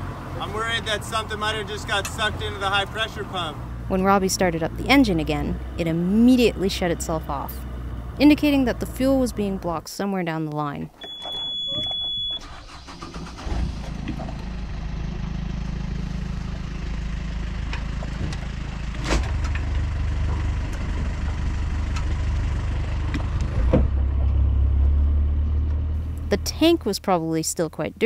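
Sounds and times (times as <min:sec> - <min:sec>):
diesel engine cranking and running: 0:00.0 - 0:10.0, 0:10.9 - 0:27.2.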